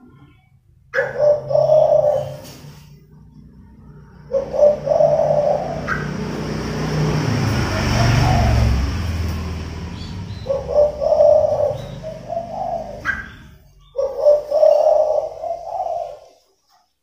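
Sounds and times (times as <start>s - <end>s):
low rumbling noise: 0.0s - 16.2s
dove cooing: 0.0s - 16.6s
bird chirp: 0.0s - 17.0s.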